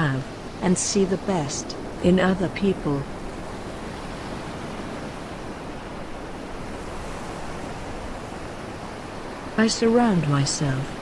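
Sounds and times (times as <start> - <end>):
ocean surf washing onto beach: 0.0 - 11.0.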